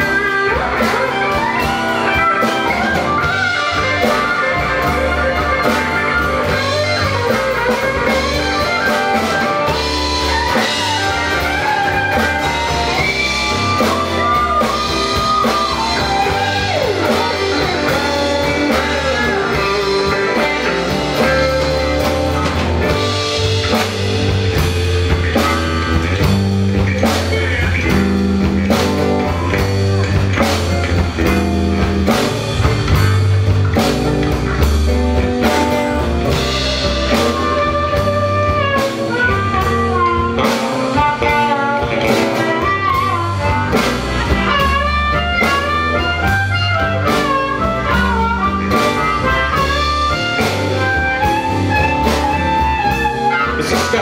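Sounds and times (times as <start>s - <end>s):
blues band playing: 0.0s - 54.0s
drum strokes: 0.0s - 54.0s
electric bass: 0.0s - 54.0s
lead guitar bending pitch: 0.0s - 54.0s.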